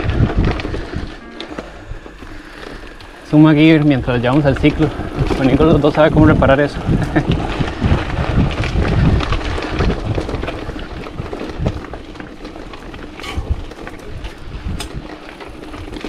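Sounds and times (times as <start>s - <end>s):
bike knocking and rattling: 0.0s - 16.0s
tyres crunching over ground: 0.0s - 16.0s
wind rumbling on microphone: 0.0s - 16.0s.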